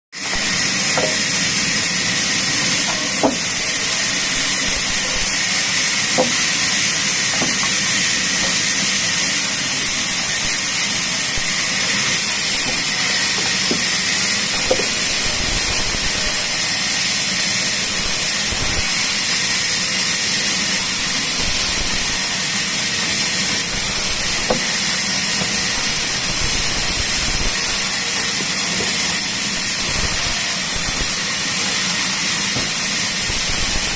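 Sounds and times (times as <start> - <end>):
power saw cutting wood: 0.2 - 33.9.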